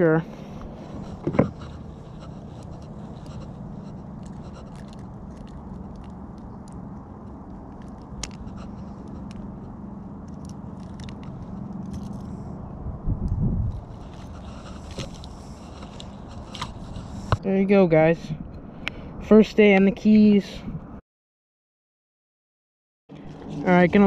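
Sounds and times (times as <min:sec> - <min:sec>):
steady low hum: 0:00.0 - 0:21.0, 0:23.1 - 0:24.0.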